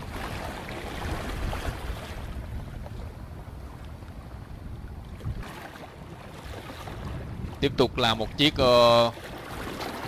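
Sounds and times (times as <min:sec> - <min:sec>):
boat engine rumbling: 0:00.0 - 0:10.0
water rushing along hull: 0:00.0 - 0:10.0
wind buffeting microphone: 0:00.0 - 0:10.0.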